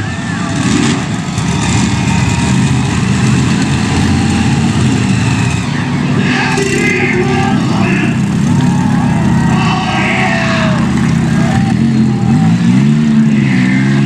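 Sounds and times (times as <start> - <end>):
monster truck engine droning: 0.0 - 14.0.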